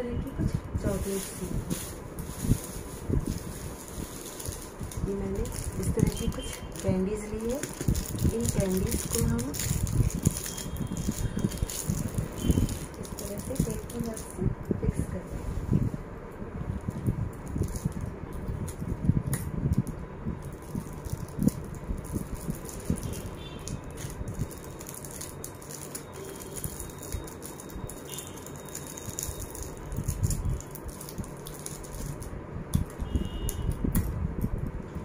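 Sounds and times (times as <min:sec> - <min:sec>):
candy wrappers rustling: 0:00.8 - 0:15.0, 0:16.9 - 0:19.0, 0:19.8 - 0:33.5.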